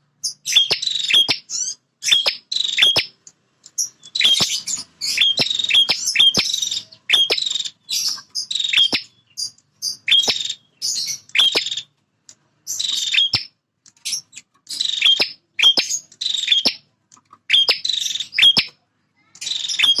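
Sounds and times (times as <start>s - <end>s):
bird buzzy chirping song: 0.0s - 12.0s, 12.6s - 20.0s.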